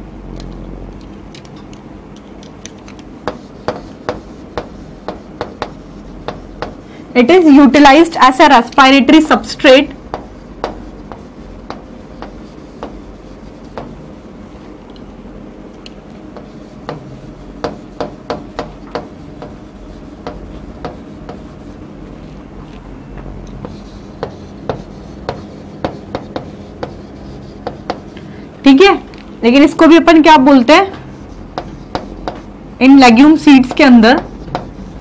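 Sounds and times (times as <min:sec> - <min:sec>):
chalk tapping and scratching: 0:01.0 - 0:15.0, 0:15.8 - 0:22.8, 0:23.5 - 0:29.0, 0:29.8 - 0:35.0.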